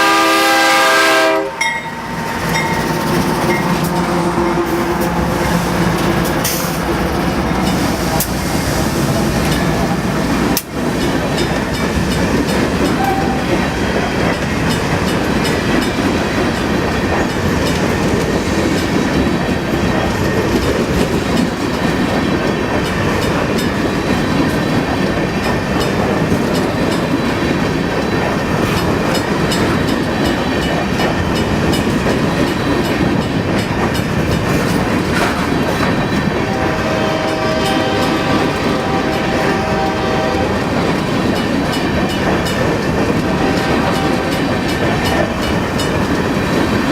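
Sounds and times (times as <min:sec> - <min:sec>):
steel wheels rumbling on rails: 0:00.0 - 0:46.9
wheels clicking over rail joints: 0:01.6 - 0:36.6, 0:40.7 - 0:46.9.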